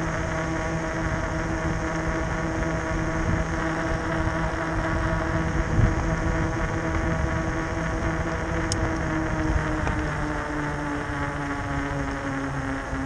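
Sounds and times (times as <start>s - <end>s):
electric bike motor whine: 0.0s - 13.0s
wind and riding noise: 0.0s - 13.0s.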